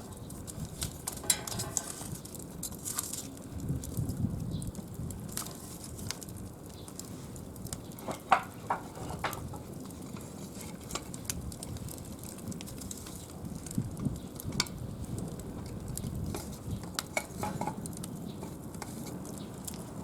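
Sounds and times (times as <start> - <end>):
sharp fire cracks: 0.0 - 20.0
wood fire crackling: 0.0 - 20.0.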